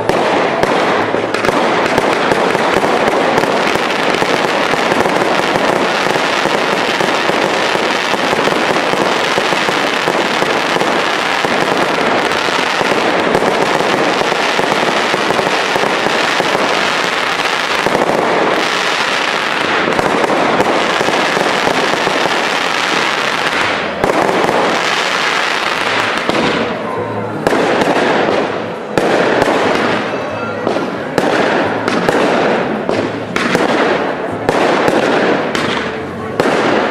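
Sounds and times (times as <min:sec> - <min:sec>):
firework bangs and crackling: 0:00.0 - 0:36.9.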